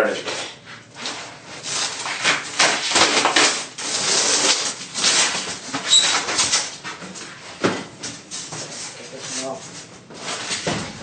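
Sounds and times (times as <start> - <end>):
insulation panel rustling and scraping: 0.0 - 11.0.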